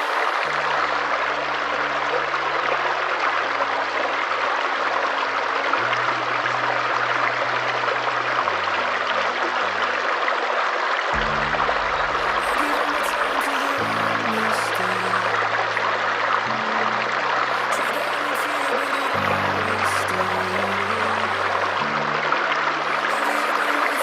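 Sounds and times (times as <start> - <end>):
rushing water: 0.0 - 24.0
soft low musical notes: 0.0 - 24.0.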